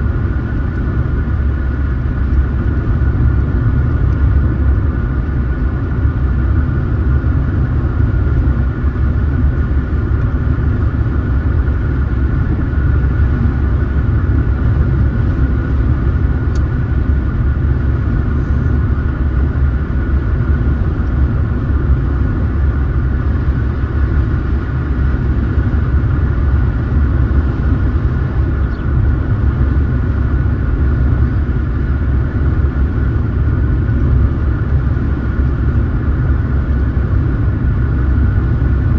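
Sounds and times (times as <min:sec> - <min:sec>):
car road and engine rumble: 0:00.0 - 0:38.9
steady high hum: 0:00.0 - 0:38.9.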